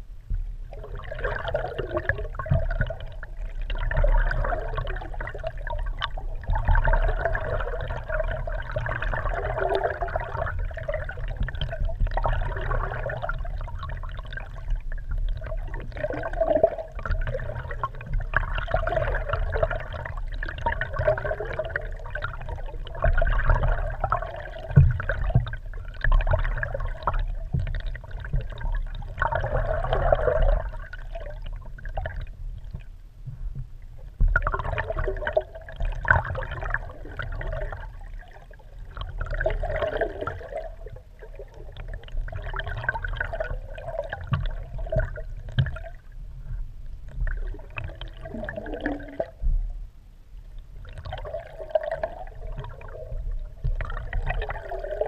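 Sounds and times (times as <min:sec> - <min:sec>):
muffled water gurgling and sloshing: 0:00.0 - 0:55.0.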